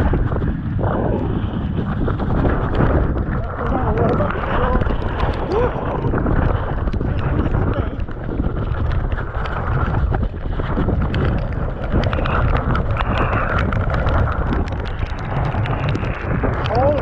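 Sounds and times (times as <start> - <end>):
bike tyres rumbling: 0.0 - 17.0
wind rushing over microphone: 0.0 - 17.0
bike clicks and rattles: 1.5 - 17.0.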